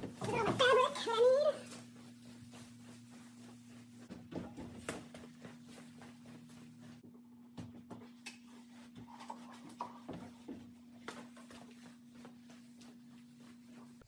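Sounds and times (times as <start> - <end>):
faint footsteps: 0.0 - 14.0.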